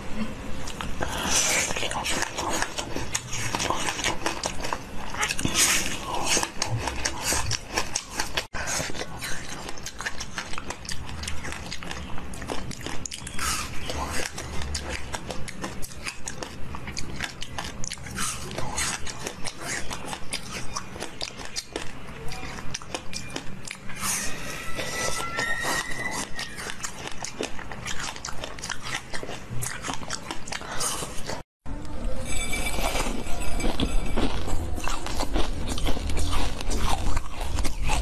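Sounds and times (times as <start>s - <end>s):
chewing crunchy ice: 0.6s - 31.4s, 32.8s - 38.0s.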